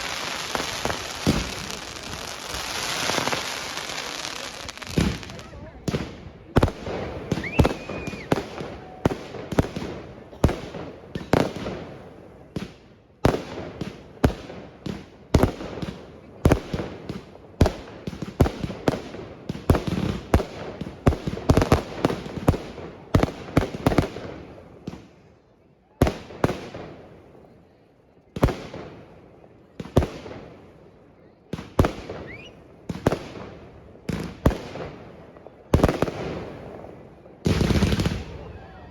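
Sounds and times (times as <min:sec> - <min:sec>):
fireworks exploding: 0:00.0 - 0:25.2, 0:26.0 - 0:27.6, 0:28.3 - 0:38.9.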